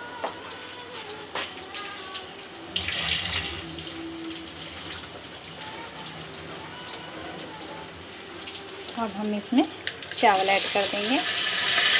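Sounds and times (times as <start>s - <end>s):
running water: 0.5s - 11.9s.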